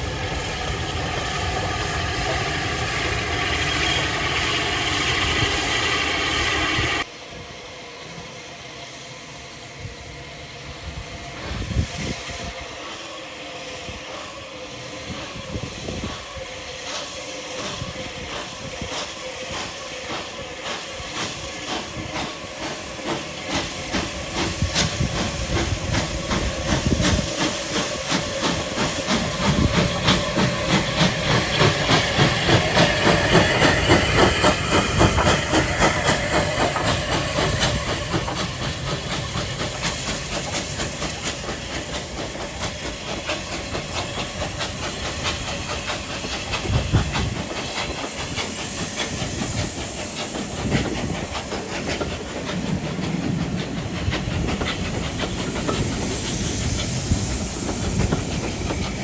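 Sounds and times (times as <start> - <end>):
steam hiss: 0.0 - 59.0
steam locomotive exhaust beats: 0.0 - 59.0.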